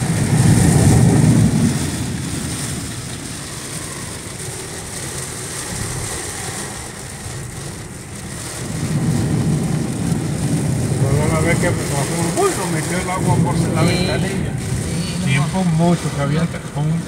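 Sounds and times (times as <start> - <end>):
low rumble: 0.0 - 17.0
rain on car body: 0.0 - 17.0
tyres on wet road: 0.0 - 17.0.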